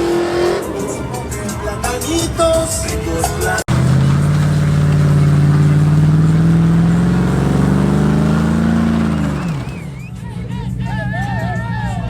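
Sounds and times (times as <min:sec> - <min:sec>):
truck engine revving: 0:00.0 - 0:10.8.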